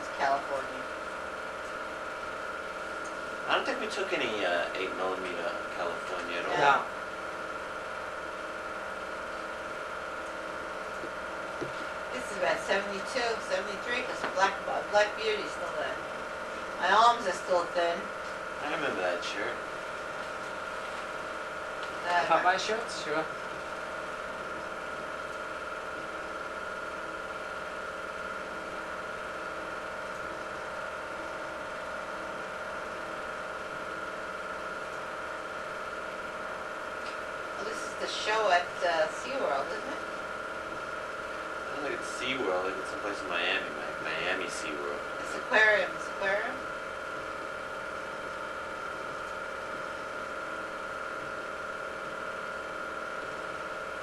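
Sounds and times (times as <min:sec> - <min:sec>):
film projector running: 0:00.0 - 0:54.0.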